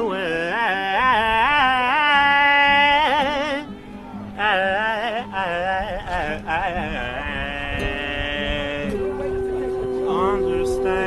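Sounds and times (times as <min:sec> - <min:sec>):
wavering wordless melody: 0:00.0 - 0:11.0.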